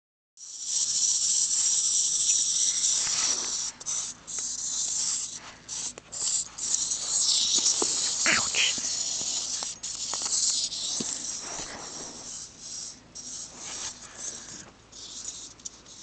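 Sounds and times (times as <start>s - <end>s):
steady high hiss: 0.4s - 15.8s.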